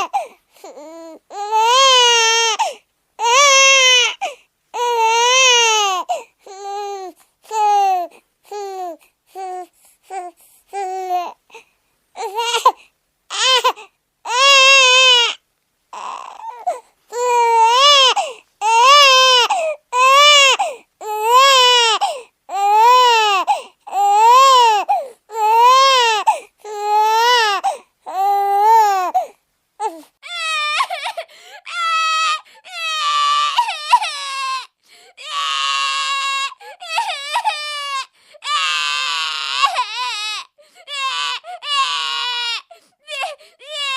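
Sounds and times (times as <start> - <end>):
baby crying: 0.0 - 11.4, 12.2 - 43.9.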